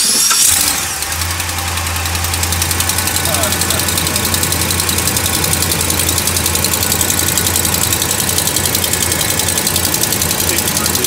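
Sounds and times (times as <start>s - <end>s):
engine idling: 0.4s - 11.0s
rapid even ticking: 1.1s - 11.0s.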